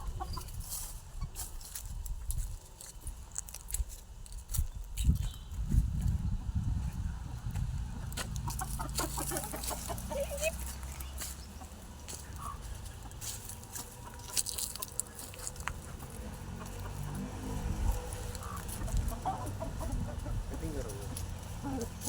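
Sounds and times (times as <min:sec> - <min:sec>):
chickens clucking: 0:00.0 - 0:01.8, 0:05.1 - 0:22.0.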